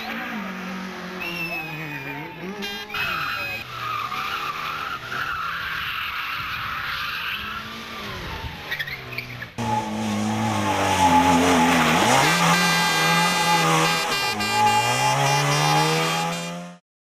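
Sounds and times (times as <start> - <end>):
rally car engine revving: 0.0 - 5.8, 7.2 - 16.8.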